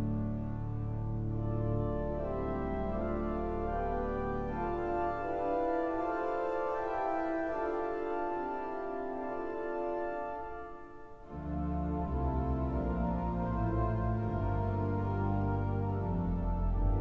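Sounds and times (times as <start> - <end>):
slow organ chords: 0.0 - 17.0.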